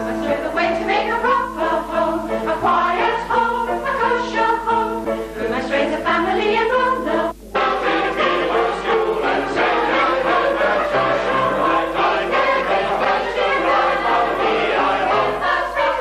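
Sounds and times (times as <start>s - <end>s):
group of voices singing: 0.0s - 16.0s
sustained musical accompaniment: 0.0s - 16.0s.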